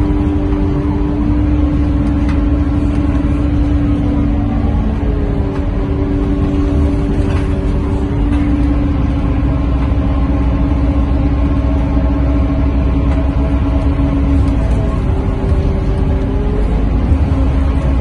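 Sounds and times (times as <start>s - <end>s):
bus engine and road rumble: 0.0s - 18.0s
steady whine: 0.0s - 18.0s.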